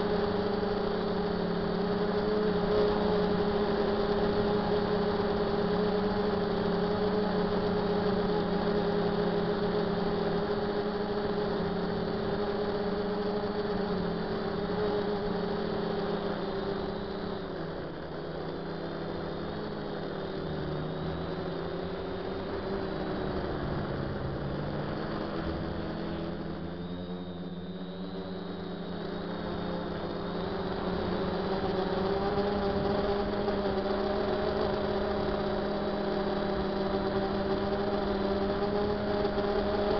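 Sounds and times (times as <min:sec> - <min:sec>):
quadcopter motors droning: 0:00.0 - 0:39.9.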